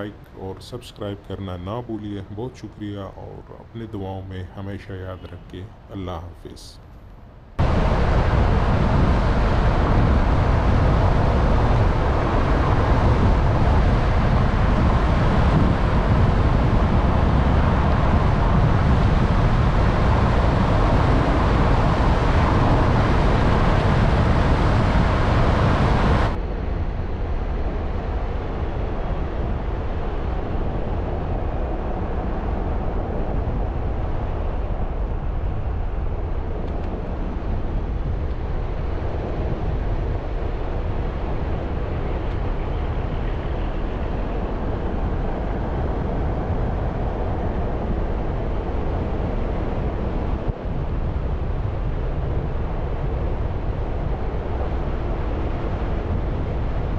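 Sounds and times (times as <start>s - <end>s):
wind noise: 7.2s - 56.9s.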